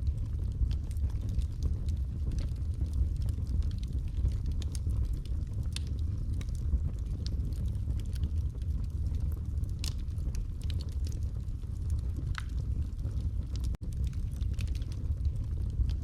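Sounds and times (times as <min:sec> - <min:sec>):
fire flames rumbling: 0:00.0 - 0:16.0
wood crackling and popping: 0:00.0 - 0:16.0.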